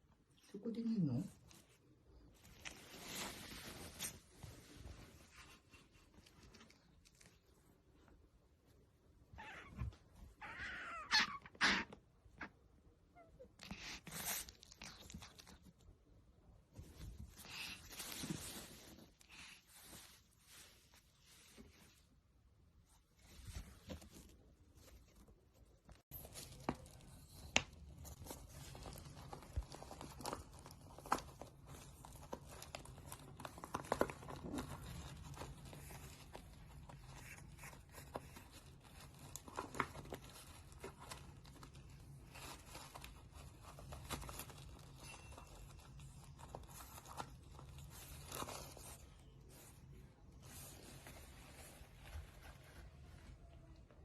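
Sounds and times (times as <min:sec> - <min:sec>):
otter rustling and scraping: 0:01.5 - 0:08.8, 0:16.5 - 0:53.9.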